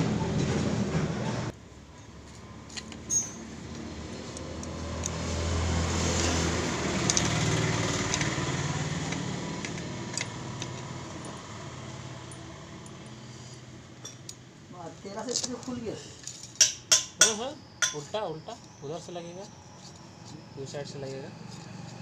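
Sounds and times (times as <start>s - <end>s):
vehicle engine hum: 0.0s - 14.7s, 18.6s - 22.0s.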